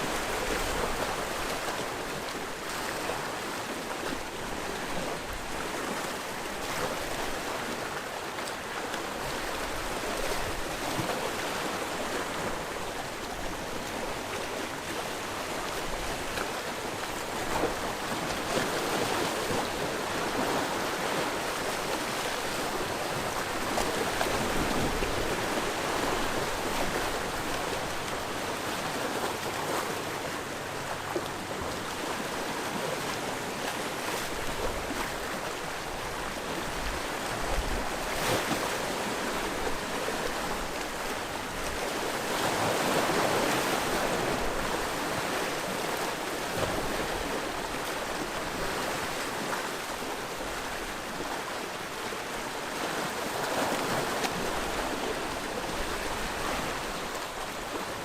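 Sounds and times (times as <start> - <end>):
sea waves washing ashore: 0.0 - 58.0.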